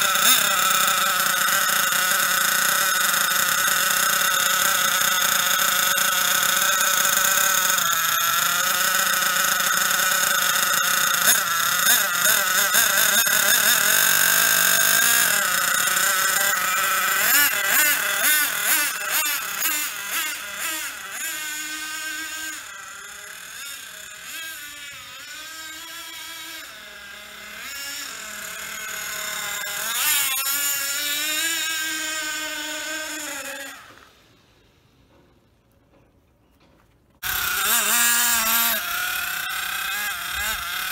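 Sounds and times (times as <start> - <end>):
model buggy engine revving: 0.0 - 34.6, 37.2 - 40.9.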